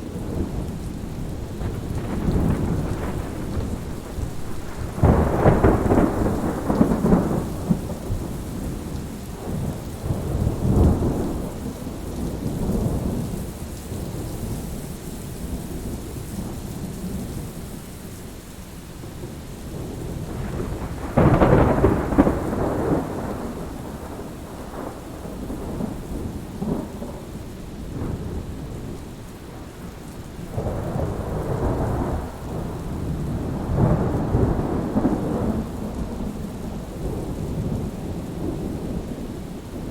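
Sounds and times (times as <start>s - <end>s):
thunder rolling: 0.0s - 13.2s, 19.7s - 39.9s
steady rain: 0.0s - 39.9s.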